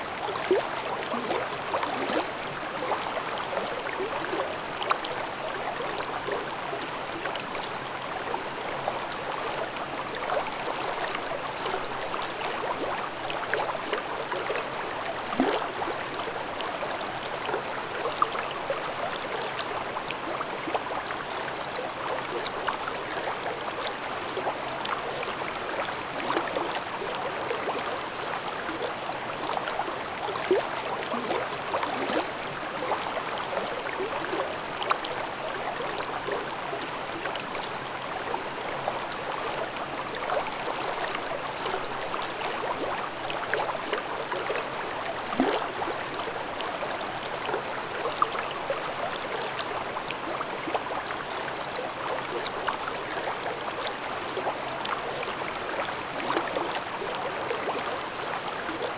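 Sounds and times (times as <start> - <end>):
stream babbling over rocks: 0.1 - 58.9.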